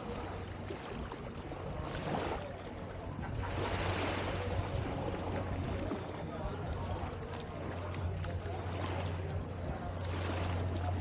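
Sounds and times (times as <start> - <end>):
small waves washing onto sand: 0.0 - 11.0.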